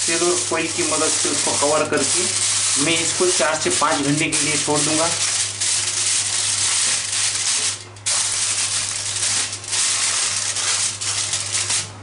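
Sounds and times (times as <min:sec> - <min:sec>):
aluminium foil crinkling: 0:01.2 - 0:11.9.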